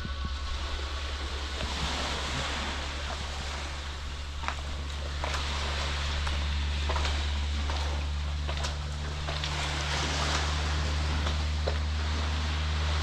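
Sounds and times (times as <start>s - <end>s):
low rumble: 0.0s - 13.0s
sea waves washing on shore: 0.0s - 13.0s.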